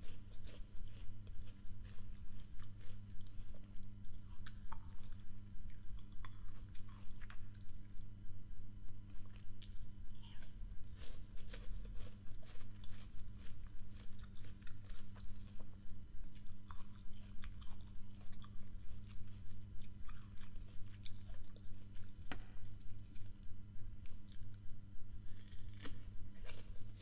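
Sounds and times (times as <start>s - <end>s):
biting crisp fruit: 0.0s - 8.0s, 9.1s - 27.0s
crunchy chewing: 0.0s - 27.0s
low electrical hum: 0.0s - 27.0s.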